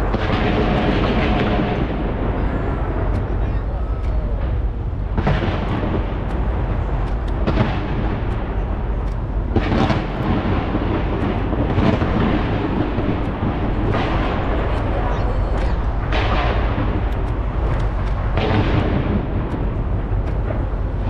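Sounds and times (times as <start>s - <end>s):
fireworks rumbling and crackling: 0.0s - 21.0s
loud firework bursts: 0.0s - 21.0s.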